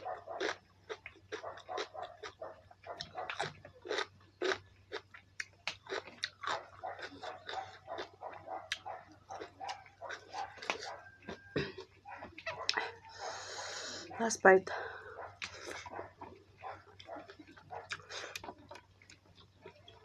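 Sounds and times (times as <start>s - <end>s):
wet chewing with mouth clicks: 0.0s - 14.2s, 15.2s - 20.0s.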